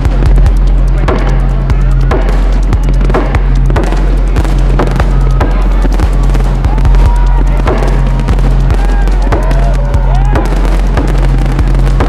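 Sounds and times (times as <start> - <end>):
fireworks bursting and crackling: 0.0 - 12.0
music with bass and steady beat: 0.0 - 12.0.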